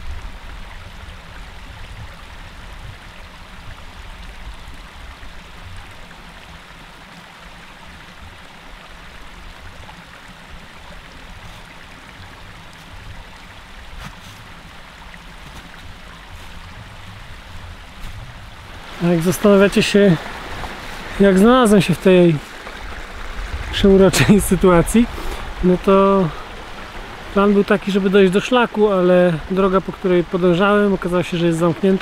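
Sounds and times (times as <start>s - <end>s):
stream running over stones: 0.0s - 32.0s.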